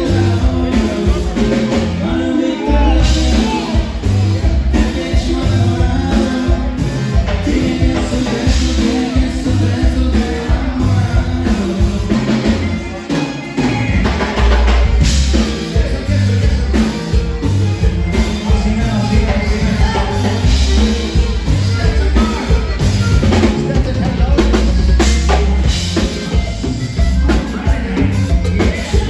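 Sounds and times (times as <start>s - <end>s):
live band playing dance music: 0.0s - 29.0s
person singing: 0.0s - 29.0s.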